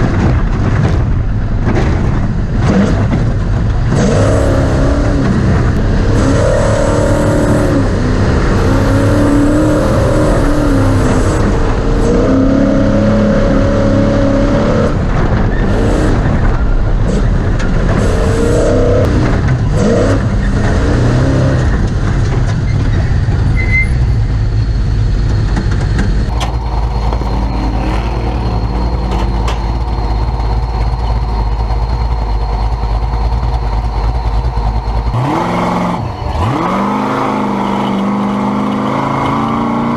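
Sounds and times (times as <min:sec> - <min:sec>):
race truck engine revving: 0:00.0 - 0:39.9
truck knocks and rattles: 0:00.0 - 0:39.9.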